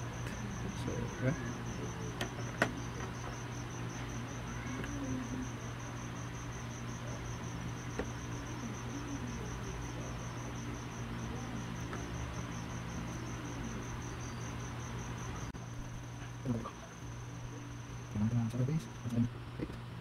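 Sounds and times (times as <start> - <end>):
cricket chirping: 0.0 - 19.6
low steady hum: 0.0 - 20.0.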